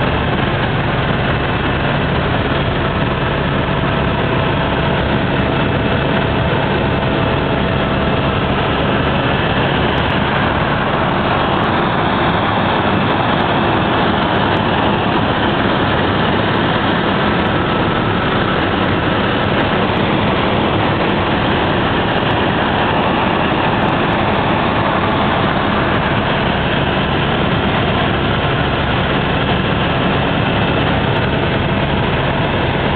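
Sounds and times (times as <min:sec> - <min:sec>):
constant low hum: 0:00.0 - 0:32.9
helicopter engine and rotor drone: 0:00.0 - 0:32.9.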